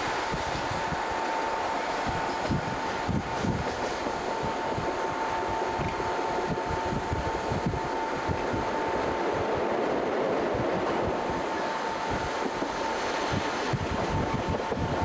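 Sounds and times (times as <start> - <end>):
train running rumble: 0.0 - 15.0
wind buffeting microphone: 0.0 - 15.0.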